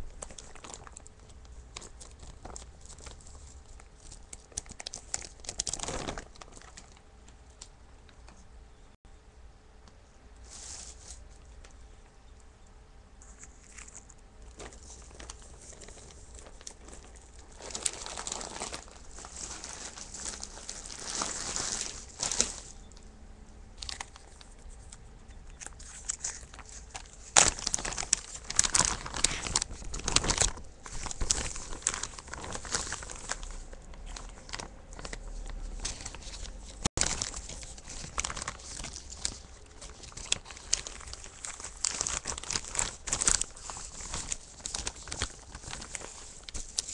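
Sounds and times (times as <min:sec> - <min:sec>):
plastic bags crinkling: 0:00.0 - 0:07.0, 0:13.2 - 0:23.0, 0:23.8 - 0:46.9.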